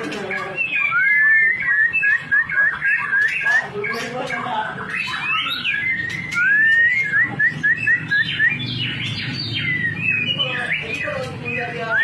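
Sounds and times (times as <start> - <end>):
songbird whistling: 0.4 - 12.0.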